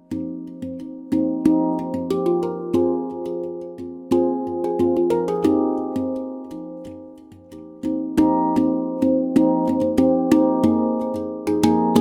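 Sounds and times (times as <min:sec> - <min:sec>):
handpan notes ringing: 0:00.0 - 0:12.0.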